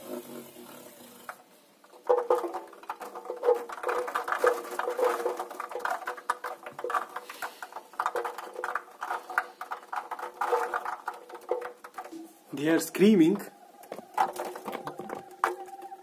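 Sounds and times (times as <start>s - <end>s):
peas rattling in washing machine drum: 0.0s - 16.0s.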